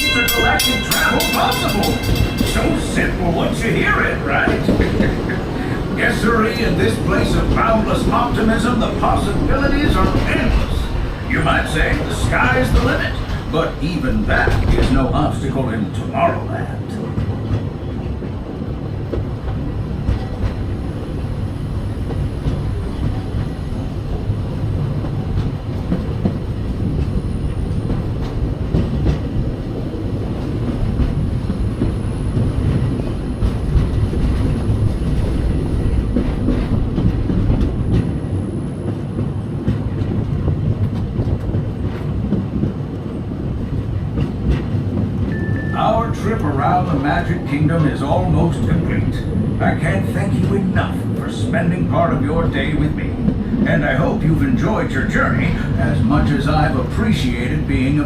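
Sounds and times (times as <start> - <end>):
clickety-clack of wheels: 0.0 - 58.0
train cars rumbling on track: 0.0 - 58.0.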